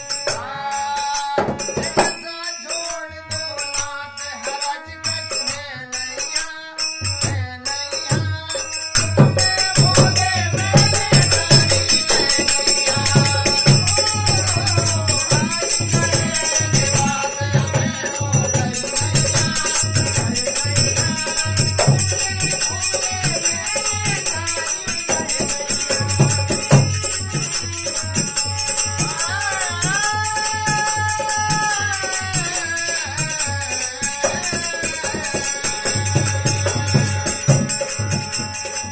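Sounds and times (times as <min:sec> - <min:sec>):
tambourine jingling rhythm: 0:00.0 - 0:38.9.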